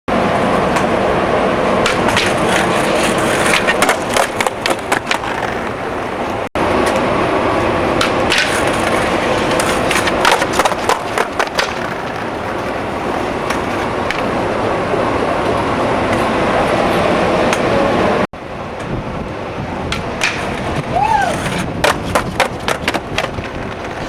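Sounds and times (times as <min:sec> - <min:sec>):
skateboard clacking and scraping: 0:00.1 - 0:24.0
skateboard wheels rolling on concrete: 0:00.1 - 0:24.0.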